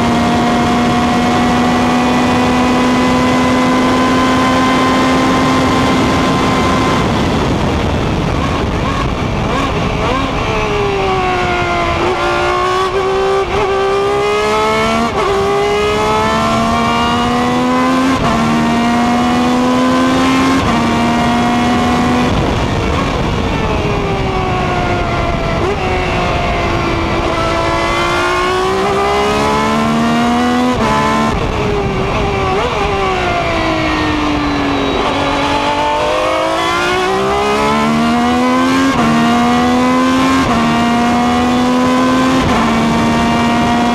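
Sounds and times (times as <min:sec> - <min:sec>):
racing car engine revving: 0:00.0 - 0:23.4, 0:24.0 - 0:43.9
wind and road noise: 0:00.0 - 0:43.9.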